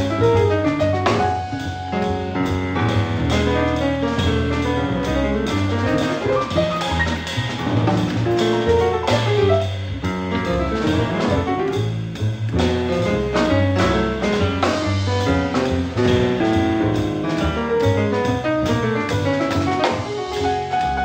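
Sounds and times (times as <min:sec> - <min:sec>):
jazz piano trio playing: 0:00.0 - 0:21.0
drum and cymbal hits: 0:01.1 - 0:18.0.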